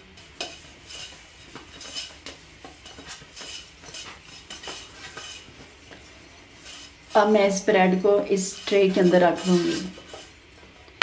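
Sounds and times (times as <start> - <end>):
hand rubbing oil in metal pan: 0.0 - 10.4.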